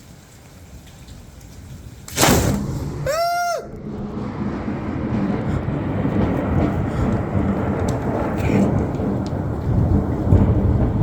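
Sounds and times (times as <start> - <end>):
thunder rumbling: 0.6 - 11.0.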